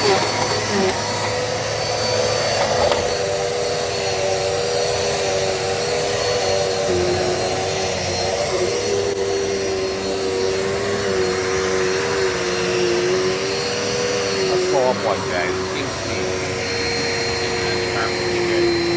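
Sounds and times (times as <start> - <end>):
vacuum cleaner running: 0.0 - 18.9.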